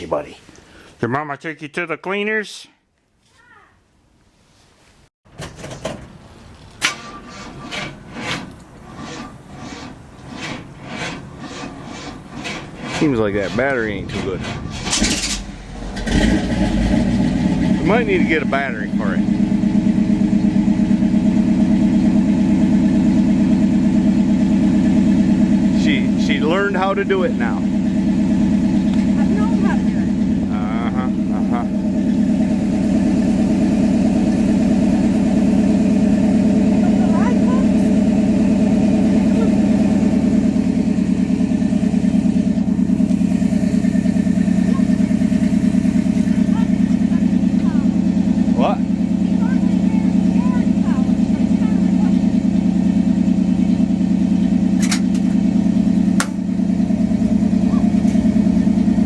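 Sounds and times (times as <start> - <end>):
truck engine idling: 6.0 - 59.0.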